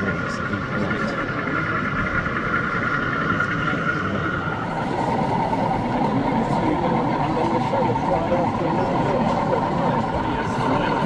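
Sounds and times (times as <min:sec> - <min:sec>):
exhibition hall din: 0:00.0 - 0:11.0
steady hum: 0:00.0 - 0:11.0.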